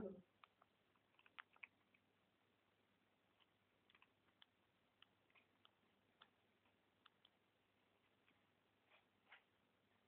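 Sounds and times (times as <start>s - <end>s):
kitten crunching dry kibble: 0.4s - 2.2s, 3.2s - 9.5s.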